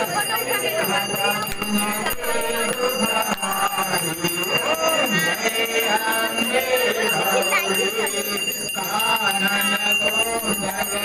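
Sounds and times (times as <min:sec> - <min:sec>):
hand bell ringing: 0:00.0 - 0:11.0
voices singing together: 0:00.0 - 0:11.0.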